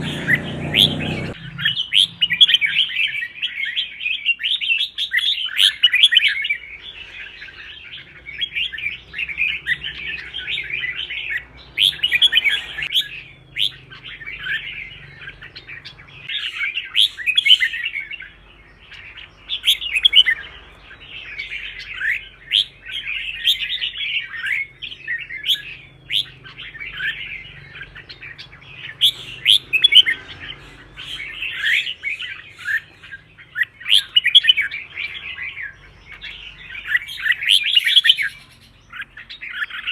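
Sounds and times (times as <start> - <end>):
birds singing chirped phrases: 0.0 - 39.9.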